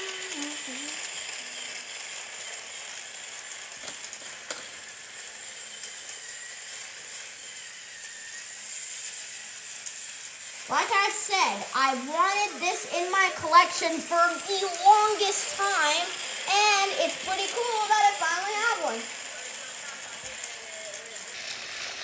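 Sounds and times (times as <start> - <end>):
toy train motor whirring: 0.0 - 22.0.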